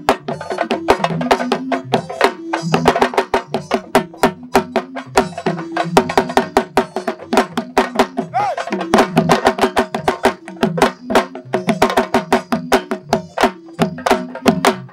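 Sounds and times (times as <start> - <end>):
drums playing fast rhythm: 0.0 - 14.9.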